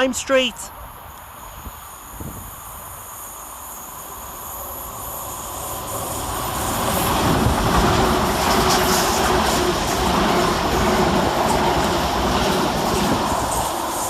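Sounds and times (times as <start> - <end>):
train wheel and rail noise: 0.0 - 14.0.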